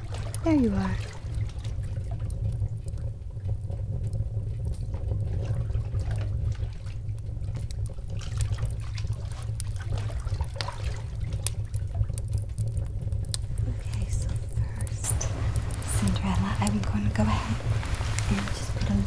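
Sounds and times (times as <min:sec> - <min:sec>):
bathwater trickling and splashing: 0:00.0 - 0:19.0
steady low hum: 0:00.0 - 0:19.0.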